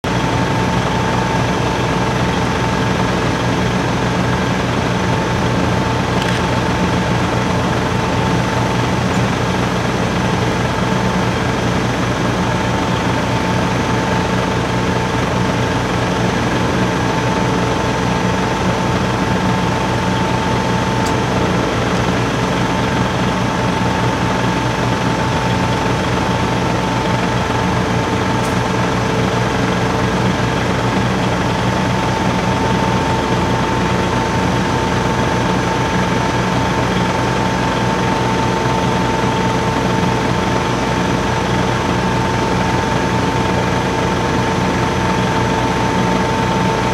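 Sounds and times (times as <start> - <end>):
crane engine drone: 0.0 - 46.9
steady high whine: 0.1 - 46.9.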